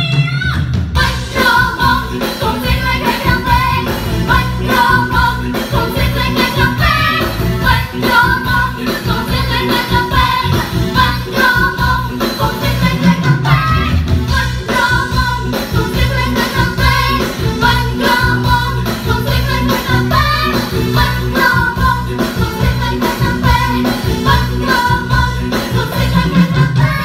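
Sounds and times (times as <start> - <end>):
amplified backing music with beat: 0.0 - 27.0.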